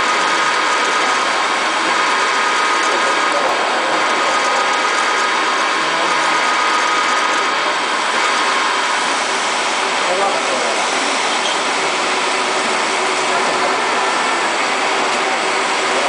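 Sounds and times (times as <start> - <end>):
drilling machine cutting metal: 0.0 - 16.0.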